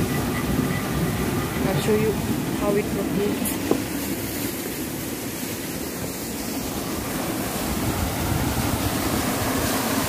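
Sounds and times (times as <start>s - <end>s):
water stream rushing: 0.0s - 10.0s
wind buffeting microphone: 0.0s - 10.0s.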